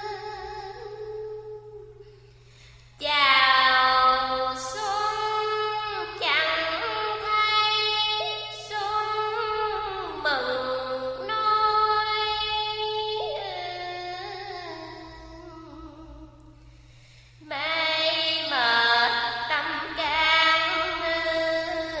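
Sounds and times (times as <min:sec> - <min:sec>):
woman chanting sung verse: 0:03.0 - 0:16.6, 0:17.4 - 0:22.0.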